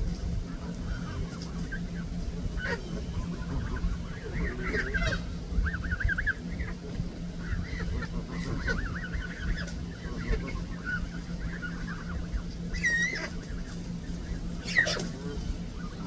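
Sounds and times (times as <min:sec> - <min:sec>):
geese calling: 0:00.0 - 0:16.0
steady low hum: 0:00.0 - 0:16.0.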